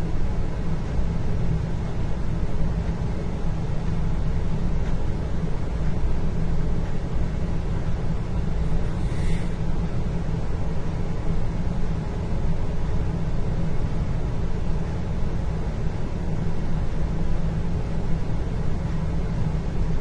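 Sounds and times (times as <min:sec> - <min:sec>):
steady low machinery rumble: 0:00.0 - 0:20.0.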